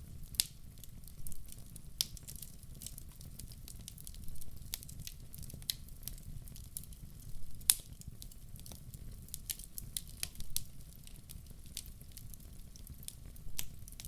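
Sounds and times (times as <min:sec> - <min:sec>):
wood fire crackling: 0:00.0 - 0:14.0
sharp pops from fire: 0:00.2 - 0:14.0.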